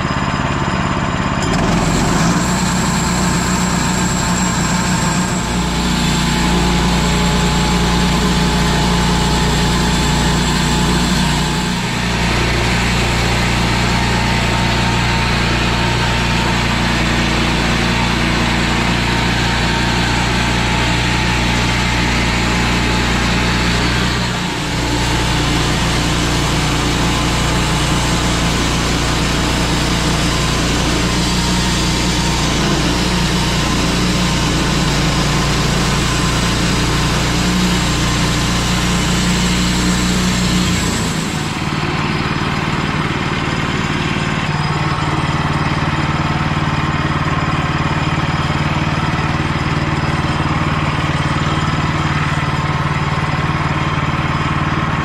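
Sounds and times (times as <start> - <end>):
bandsaw mill engine running: 0.0 - 55.0.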